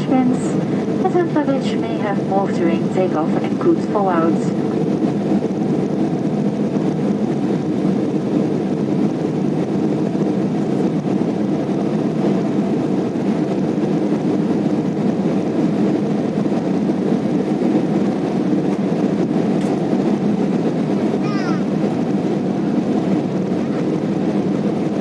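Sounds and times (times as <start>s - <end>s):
jet cabin engine rumble: 0.0s - 25.0s.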